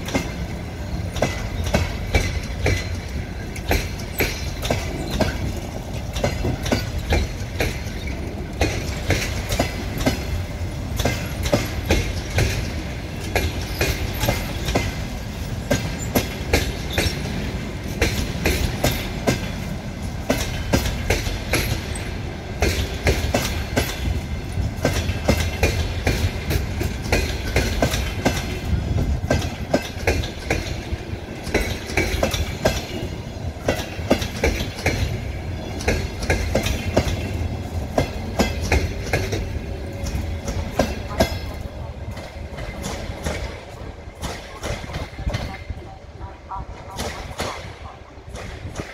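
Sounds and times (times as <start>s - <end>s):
train wheels clattering over rail joints: 0.0s - 45.8s, 46.9s - 48.9s.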